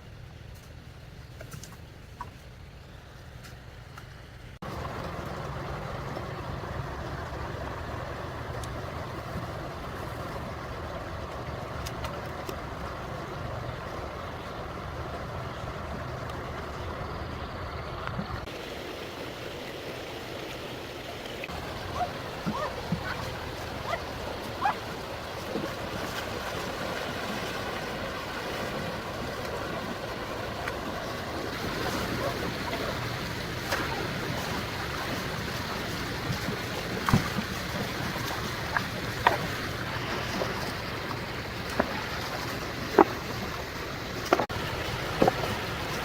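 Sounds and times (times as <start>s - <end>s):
water splashes and plunks: 4.6s - 17.2s, 18.1s - 46.0s
stream water rushing: 4.6s - 46.0s.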